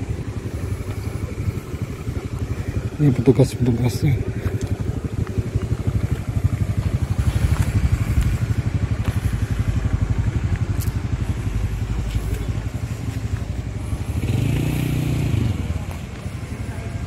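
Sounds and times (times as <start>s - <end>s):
motorcycle engine idling low: 0.0s - 17.0s.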